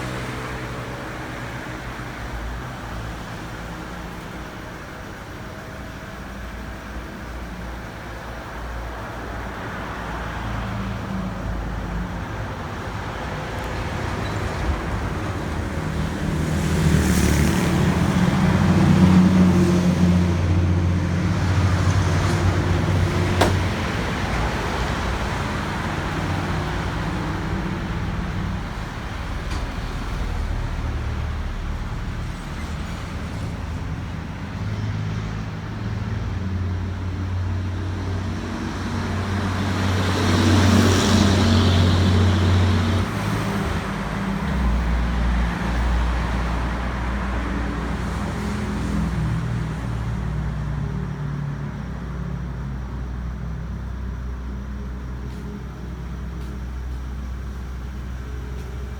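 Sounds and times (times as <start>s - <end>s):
road traffic noise: 0.0s - 58.9s
vehicle engine humming: 0.0s - 58.9s.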